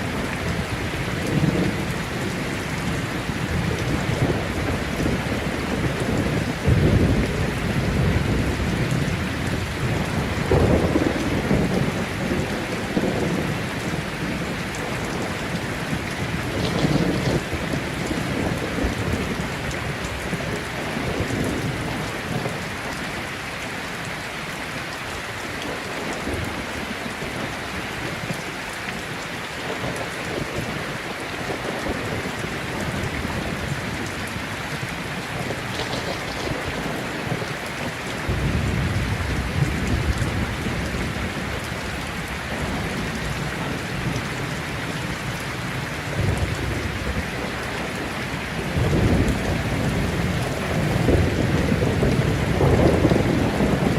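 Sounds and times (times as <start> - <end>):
thunder rumbling: 0.0 - 22.6, 31.4 - 53.9
steady rain: 0.0 - 53.9.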